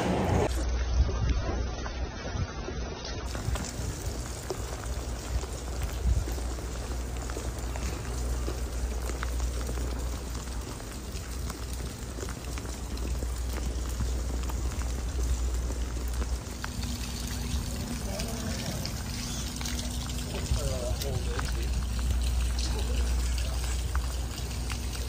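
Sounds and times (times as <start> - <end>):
heavy rain on pavement: 0.0 - 25.0
low steady rumble: 0.0 - 25.0.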